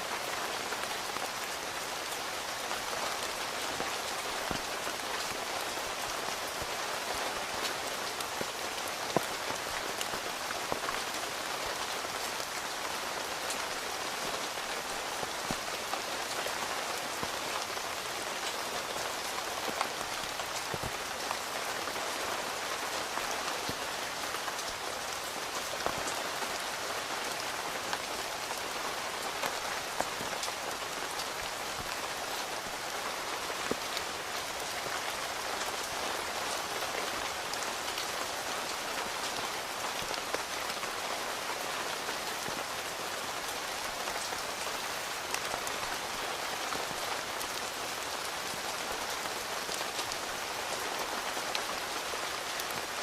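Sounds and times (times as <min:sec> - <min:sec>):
rain on a tent: 0:00.0 - 0:53.0.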